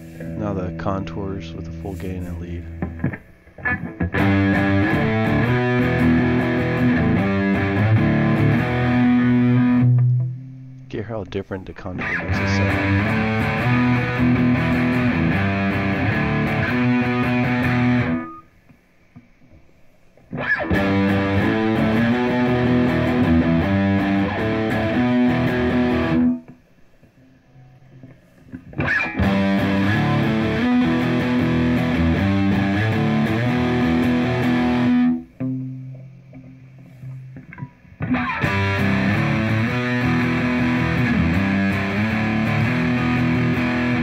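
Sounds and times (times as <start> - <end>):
distorted electric guitar riff: 0.0 - 44.0
faint amp hiss: 0.0 - 44.0.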